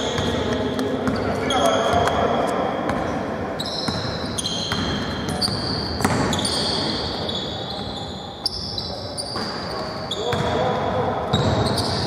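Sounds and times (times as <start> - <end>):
sneakers squeaking on floor: 0.0 - 12.0.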